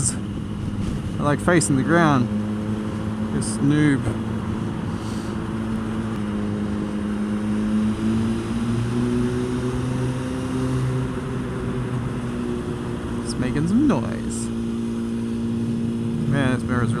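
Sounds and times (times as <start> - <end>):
motorcycle engine cruising: 0.0 - 17.0
wind and road rush: 0.0 - 17.0.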